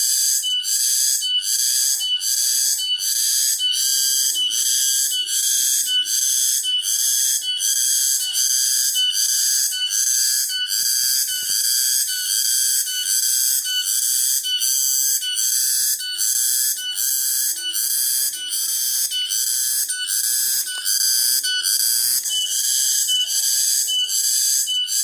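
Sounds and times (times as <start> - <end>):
cicadas singing: 0.0 - 25.0.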